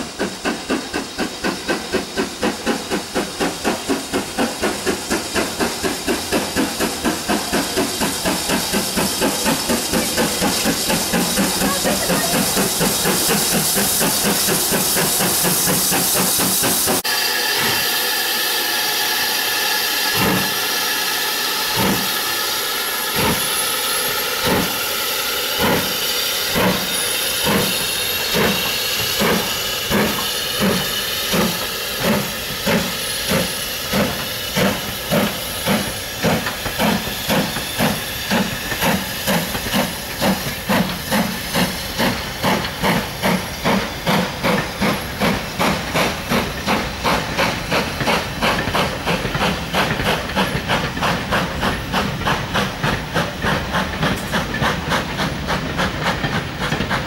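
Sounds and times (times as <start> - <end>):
steam hissing from drain cocks: 0.0 - 57.0
steam locomotive chuffing: 0.0 - 57.0.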